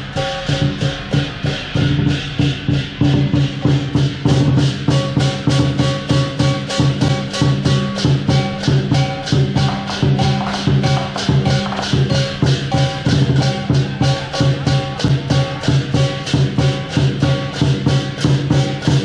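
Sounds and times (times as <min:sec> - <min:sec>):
cymbals clashing: 0:00.0 - 0:19.0
drum beating: 0:00.0 - 0:19.0
gong: 0:00.0 - 0:19.0.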